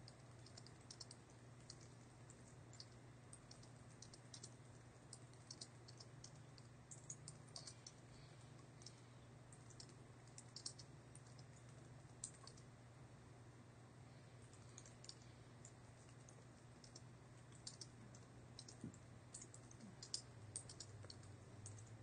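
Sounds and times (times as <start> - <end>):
soft keyboard typing: 0.0 - 12.7, 14.4 - 22.0
low electrical hum: 0.0 - 22.0.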